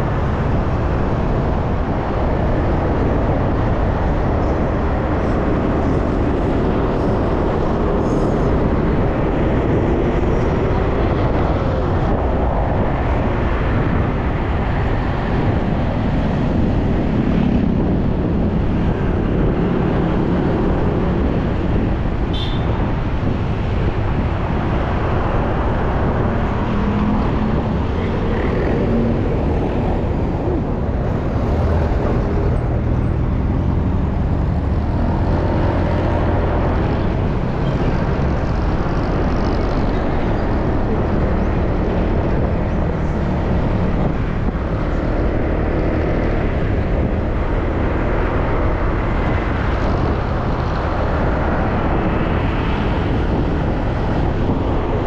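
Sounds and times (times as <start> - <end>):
wind and tyre rumble: 0.0 - 55.0.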